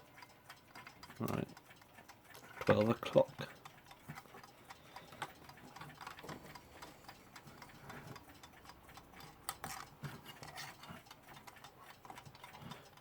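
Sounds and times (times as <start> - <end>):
alarm clock ticking: 0.0 - 13.0.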